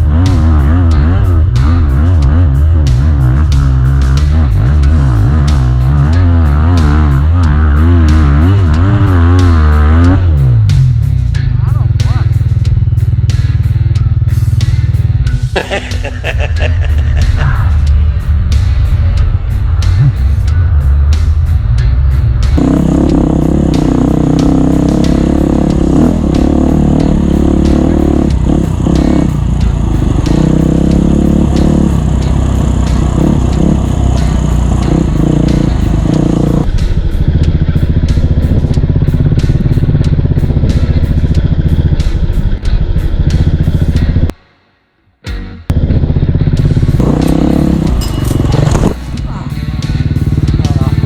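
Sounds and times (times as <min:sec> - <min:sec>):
motorcycle engines running: 0:00.0 - 0:44.3, 0:45.6 - 0:51.0
background music: 0:00.0 - 0:51.0.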